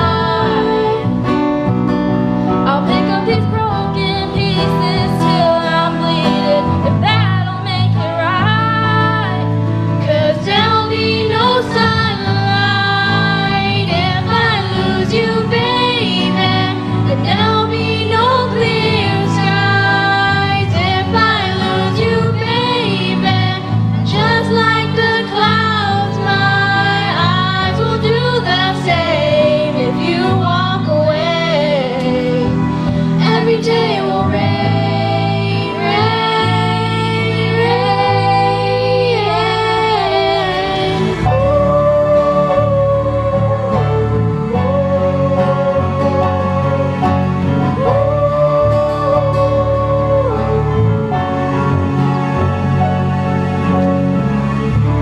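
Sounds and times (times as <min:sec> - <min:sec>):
girls singing a pop ballad: 0:00.0 - 0:01.7, 0:02.4 - 0:52.4
acoustic guitar: 0:00.0 - 0:55.0
keyboard: 0:00.0 - 0:55.0.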